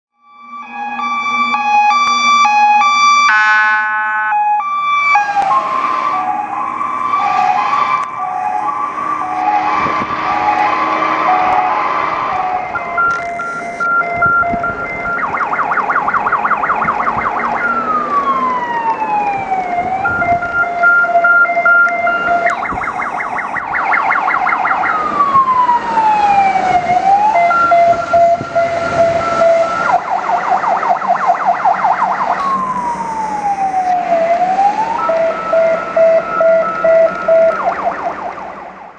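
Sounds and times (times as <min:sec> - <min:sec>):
fire engine electronic siren: 0:00.1 - 0:38.9.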